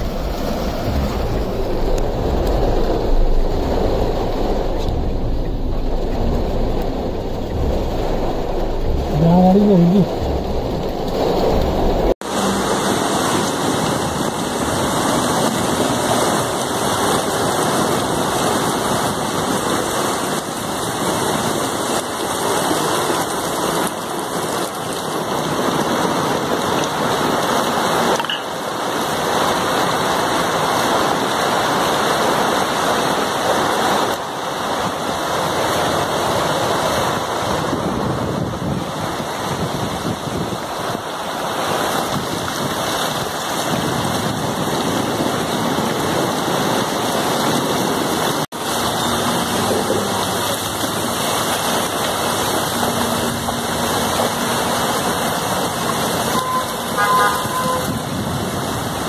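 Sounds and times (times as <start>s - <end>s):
heavy rain splashing into water: 0.0s - 59.0s.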